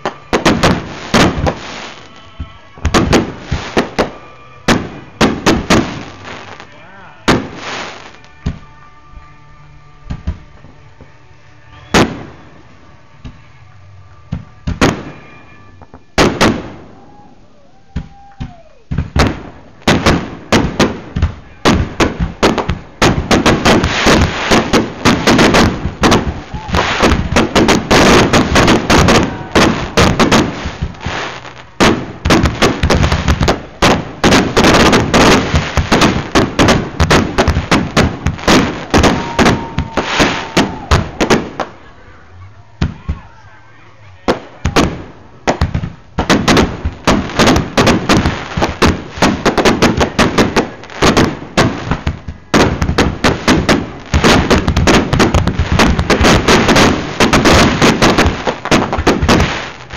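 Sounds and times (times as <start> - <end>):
fireworks bangs and crackling: 0.0 - 9.3, 10.0 - 41.9, 42.7 - 59.9.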